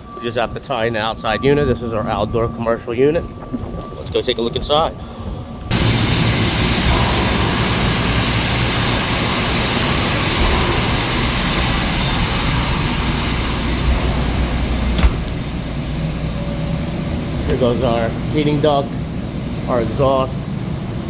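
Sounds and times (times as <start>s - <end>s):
industrial equipment roaring: 0.0s - 21.0s
low hum: 0.0s - 21.0s.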